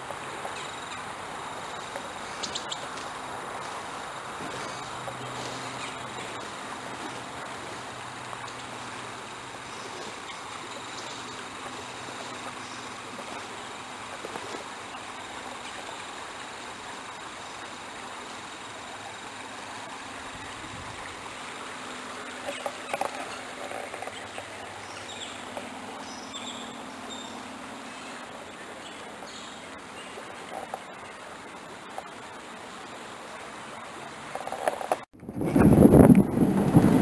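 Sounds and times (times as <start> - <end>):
creek water rushing: 0.0 - 37.0.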